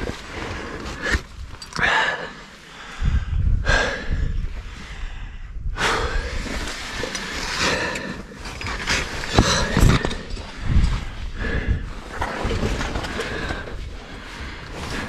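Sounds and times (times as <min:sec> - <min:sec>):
man breathing heavily: 0:00.0 - 0:15.0
steady low rumble: 0:00.0 - 0:15.0.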